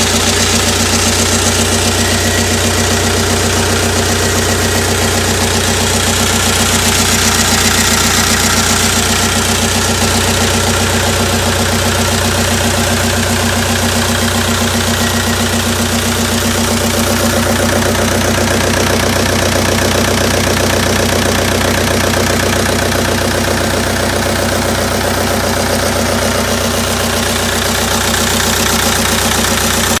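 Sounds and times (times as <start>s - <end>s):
diesel engine clattering: 0.0s - 30.0s.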